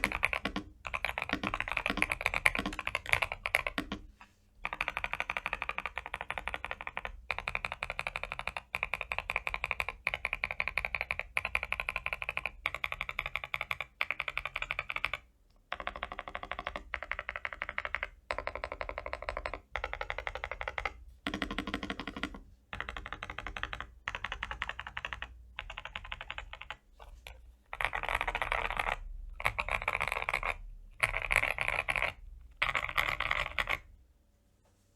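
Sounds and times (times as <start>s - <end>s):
typing on mechanical keyboard: 0.0s - 33.9s.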